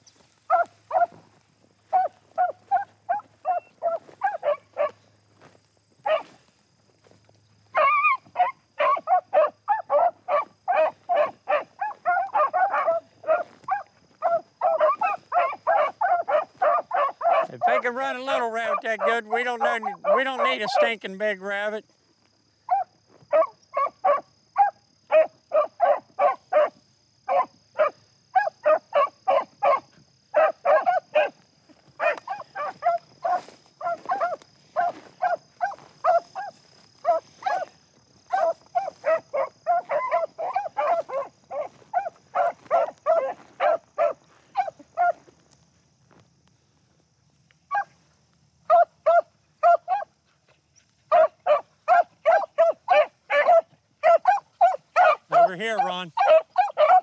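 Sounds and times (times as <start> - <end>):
dogs barking rapidly: 0.5 - 1.2, 1.8 - 5.1, 6.0 - 6.4, 7.7 - 21.0, 22.7 - 31.4, 32.0 - 45.2, 47.7 - 48.0, 48.7 - 50.2, 51.1 - 57.0.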